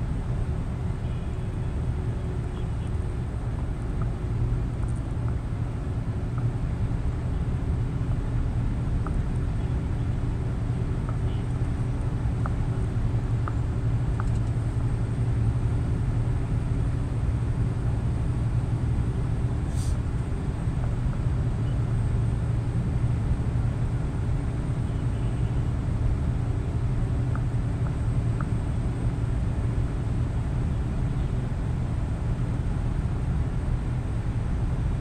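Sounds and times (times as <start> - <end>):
truck engine and tyre drone: 0.0 - 35.0.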